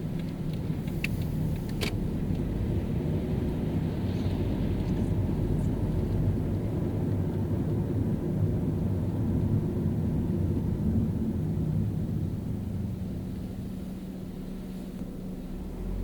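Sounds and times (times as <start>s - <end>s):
car driving on wet road: 0.0s - 16.0s.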